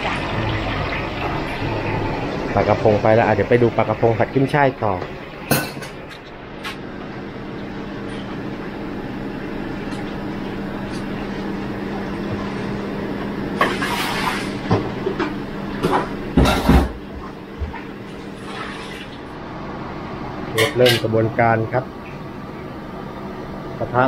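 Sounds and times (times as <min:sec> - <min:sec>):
kitchen equipment humming: 0:00.0 - 0:24.0.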